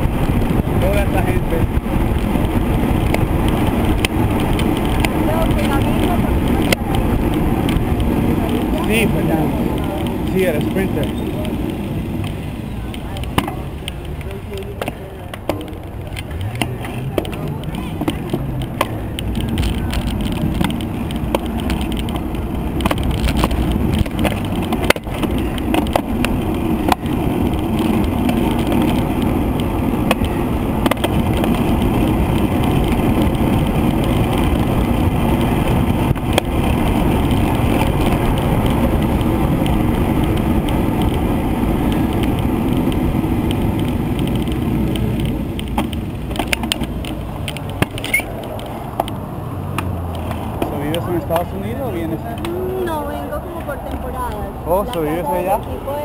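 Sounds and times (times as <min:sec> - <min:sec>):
tyre and road rumble: 0:00.0 - 0:56.0
wind rushing over microphone: 0:00.0 - 0:56.0.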